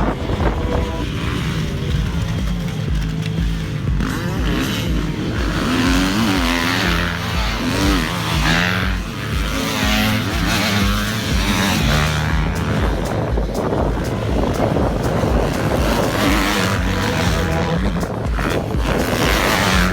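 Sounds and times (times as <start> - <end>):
motocross engines revving: 0.0 - 19.9.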